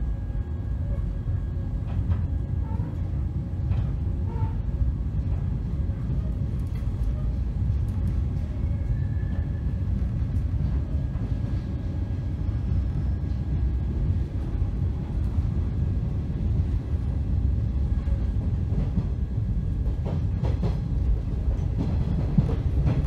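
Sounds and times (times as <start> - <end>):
train rumbling on rails: 0.0 - 23.0
rail joint clicks: 0.8 - 23.0.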